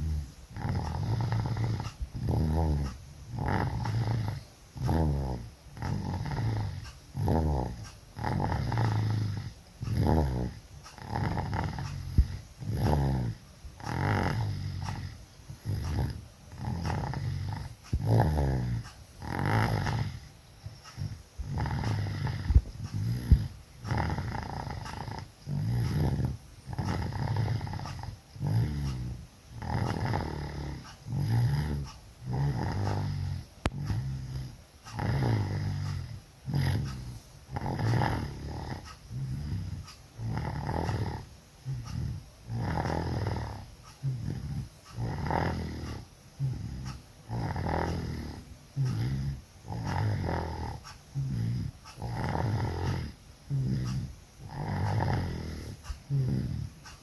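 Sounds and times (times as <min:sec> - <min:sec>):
person snoring loudly: 0:00.0 - 0:56.8.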